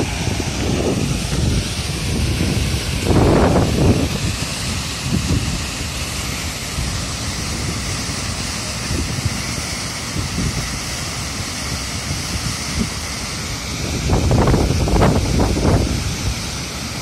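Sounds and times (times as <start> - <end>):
waterfall rushing over rocks: 0.0 - 17.0
wind buffeting microphone: 0.0 - 17.0.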